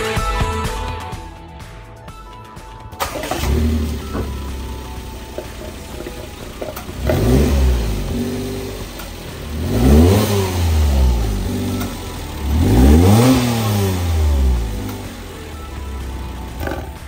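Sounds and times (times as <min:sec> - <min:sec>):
small truck engine revving: 0:03.0 - 0:17.0.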